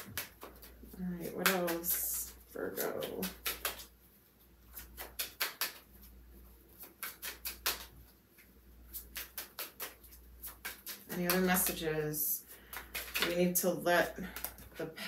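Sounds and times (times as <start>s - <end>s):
cards being shuffled: 0.0s - 4.0s, 4.6s - 13.6s, 14.2s - 14.8s.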